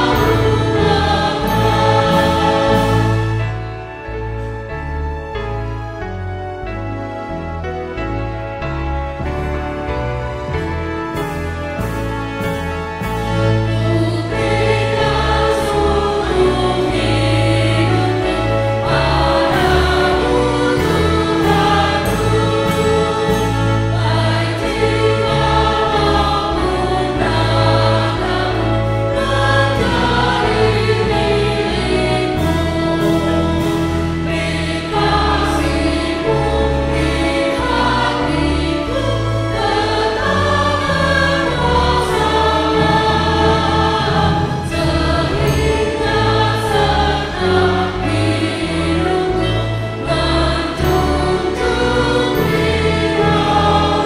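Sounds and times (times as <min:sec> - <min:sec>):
singers on microphones: 0:00.0 - 0:03.5, 0:13.7 - 0:54.0
congregation singing a hymn: 0:00.0 - 0:54.0
low instrumental accompaniment: 0:00.0 - 0:54.0.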